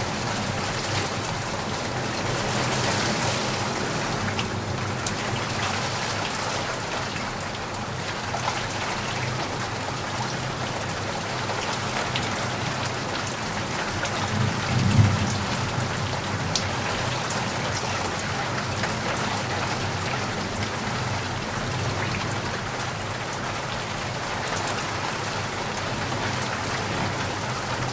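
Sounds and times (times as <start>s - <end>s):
steady rainfall: 0.0s - 27.9s.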